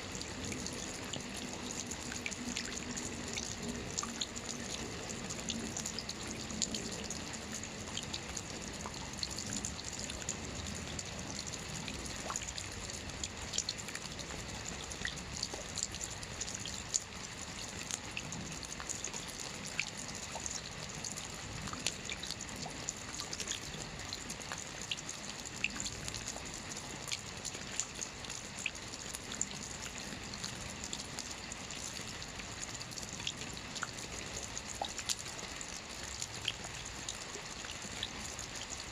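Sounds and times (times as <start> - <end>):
drips and splashes: 0.0 - 38.9
light rain: 0.0 - 38.9.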